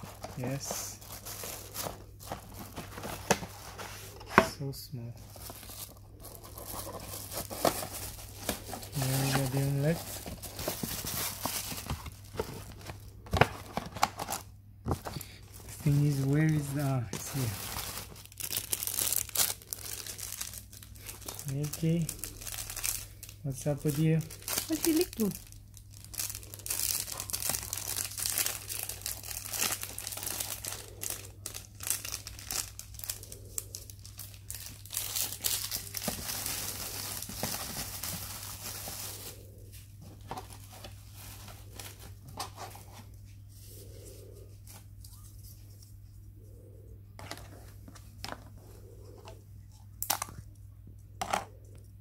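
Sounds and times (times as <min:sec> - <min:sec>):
plastic wrapper crinkling: 0:00.0 - 0:04.2, 0:05.2 - 0:42.7.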